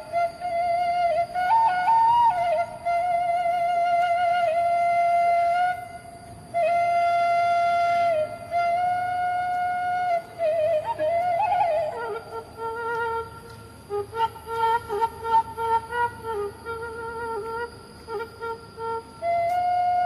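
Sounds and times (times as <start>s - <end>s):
bamboo flute melody: 0.0s - 20.0s.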